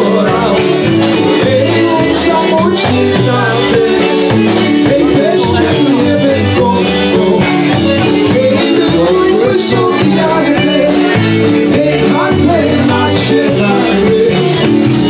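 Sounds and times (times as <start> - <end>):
live band music: 0.0 - 15.0
man singing: 0.0 - 15.0.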